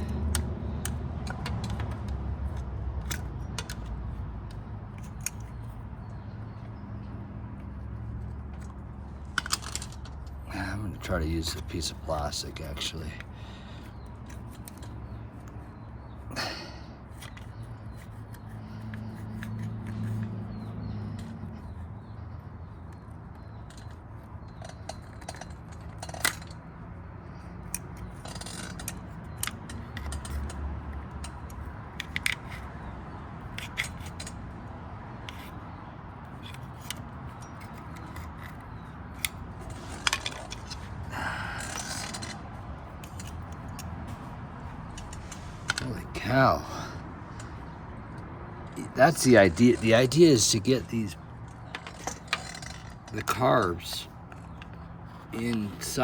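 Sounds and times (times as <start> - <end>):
small clicks taps and scrapes: 0.0 - 16.2, 17.1 - 46.6, 47.3 - 56.0.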